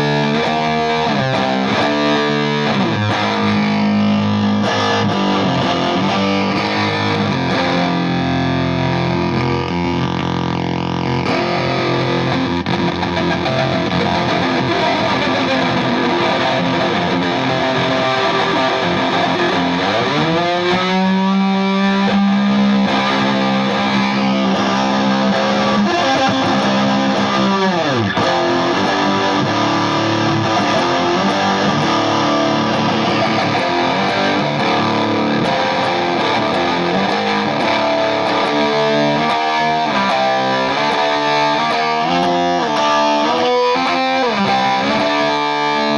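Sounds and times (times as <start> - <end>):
fuzzy distorted electric guitar: 0.0 - 45.9.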